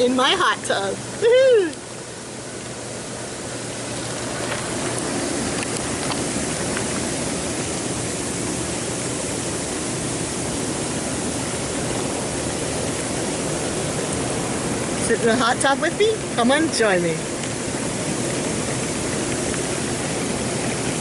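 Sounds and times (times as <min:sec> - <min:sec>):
hot tub jets bubbling: 0:00.0 - 0:21.0.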